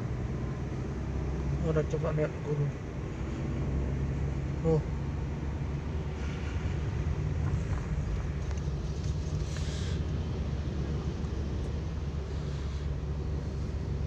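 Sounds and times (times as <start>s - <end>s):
taxi road noise rumble: 0.0s - 14.0s.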